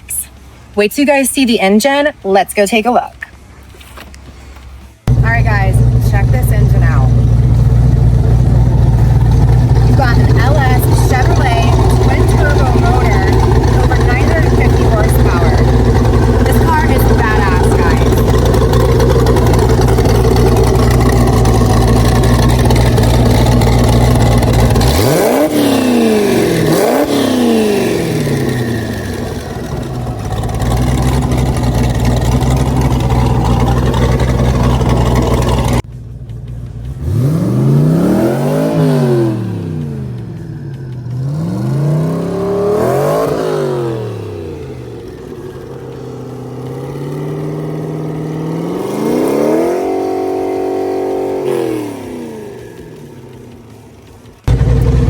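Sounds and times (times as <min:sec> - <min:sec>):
car engine idling and revving: 0:03.2 - 0:55.0.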